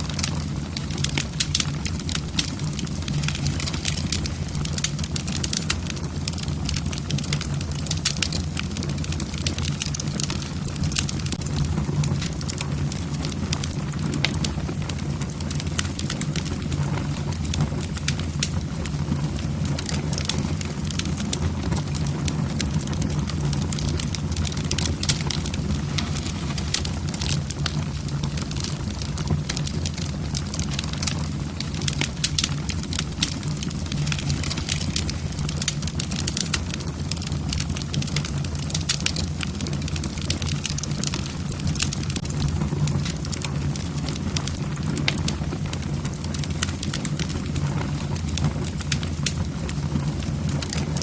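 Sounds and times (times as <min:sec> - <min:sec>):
fireplace logs crackling: 0:00.0 - 0:51.0.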